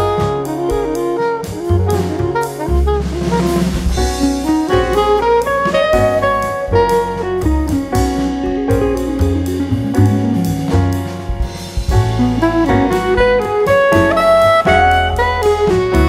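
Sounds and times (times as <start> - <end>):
jazzy background music: 0.0 - 16.0.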